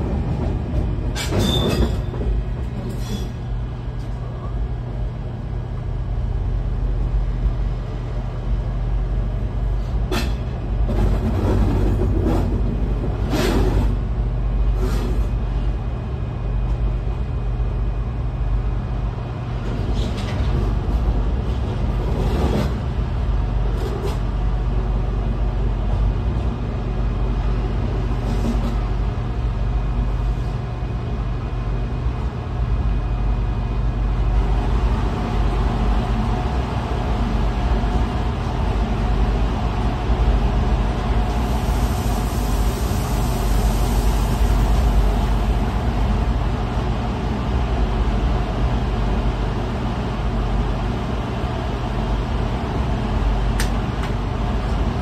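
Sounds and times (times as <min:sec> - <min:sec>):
train rumble and hum: 0:00.0 - 0:55.0.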